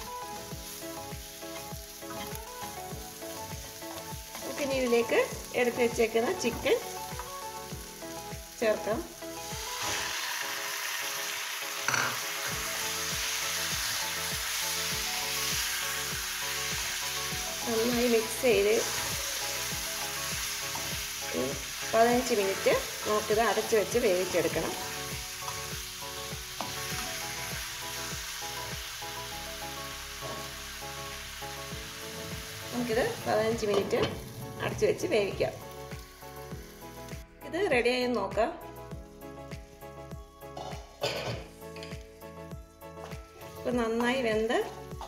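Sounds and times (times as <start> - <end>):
chicken sizzling in a pan: 0.0 - 37.2
background music: 0.0 - 45.0.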